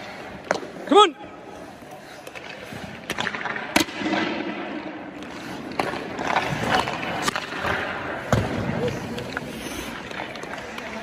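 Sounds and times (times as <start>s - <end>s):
hockey pucks and sticks knocking: 0.0s - 0.9s, 1.8s - 11.0s
skate blades scraping ice: 0.0s - 11.0s.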